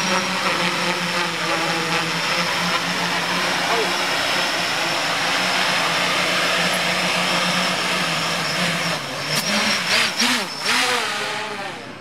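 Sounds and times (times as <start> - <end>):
quadcopter motors whirring: 0.0 - 12.0.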